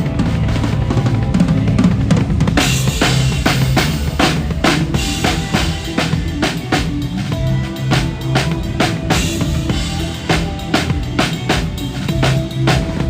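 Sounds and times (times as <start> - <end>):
drum kit kick and snare: 0.0 - 13.0
live band playing: 0.0 - 13.0.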